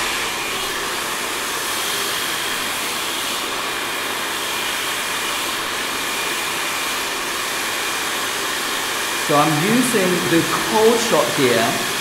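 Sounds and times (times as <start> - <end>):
hairdryer blowing air: 0.0 - 12.0.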